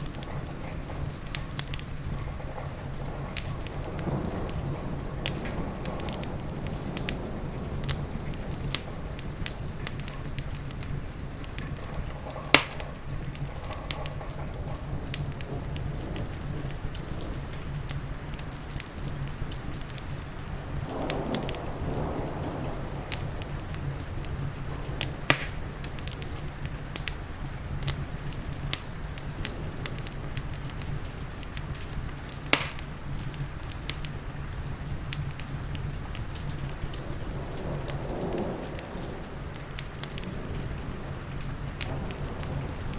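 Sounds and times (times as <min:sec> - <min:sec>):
fire pops: 0:00.0 - 0:42.9
rain hiss: 0:00.0 - 0:42.9
wood fire crackling: 0:00.0 - 0:42.9.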